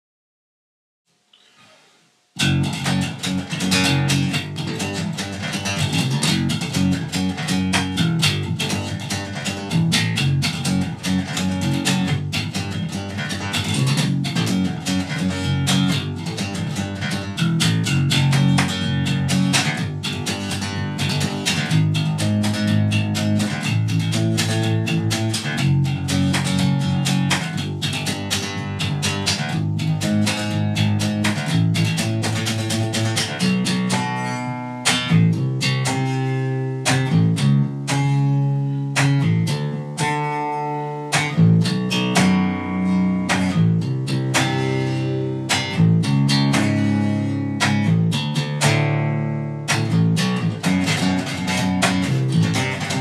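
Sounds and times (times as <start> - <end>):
electric bass guitar riff: 2.4 - 53.0.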